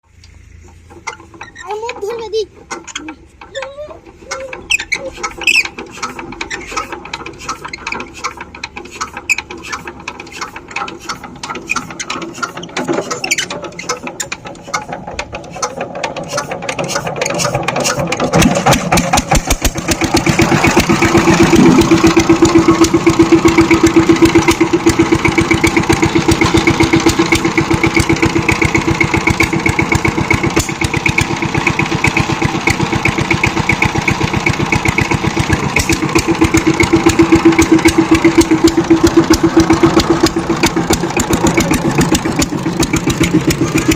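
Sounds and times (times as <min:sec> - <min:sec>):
diesel engine starting and running: 0:00.0 - 0:43.9
clicking and rattling: 0:00.2 - 0:43.9.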